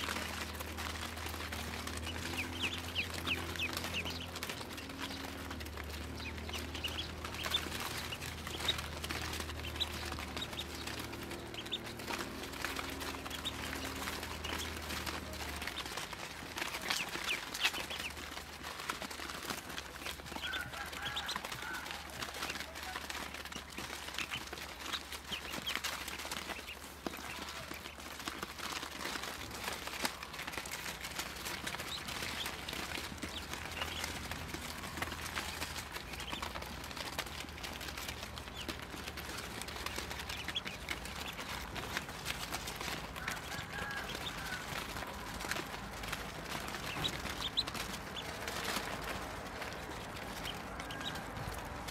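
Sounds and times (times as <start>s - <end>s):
ducklings peeping: 0.0s - 51.9s.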